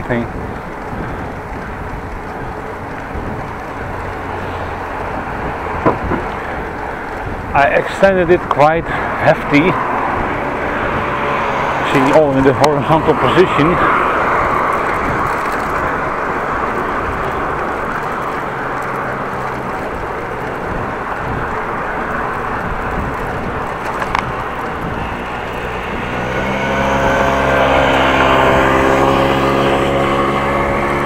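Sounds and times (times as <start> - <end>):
motor vehicle engine drone: 0.0 - 31.0
wind and road noise: 0.0 - 31.0.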